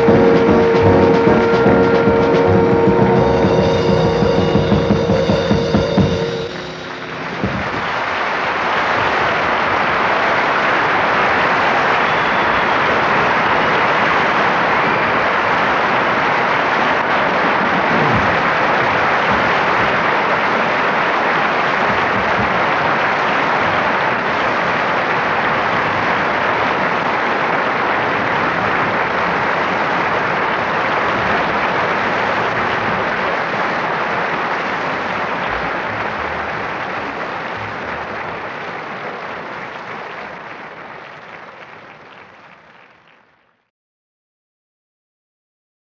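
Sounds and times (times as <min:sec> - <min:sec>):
audience applauding: 0:00.0 - 0:43.6.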